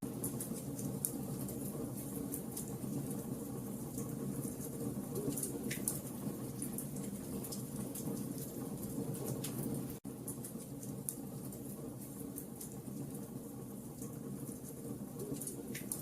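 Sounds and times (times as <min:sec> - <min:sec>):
bonfire crackling: 0:00.1 - 0:16.0.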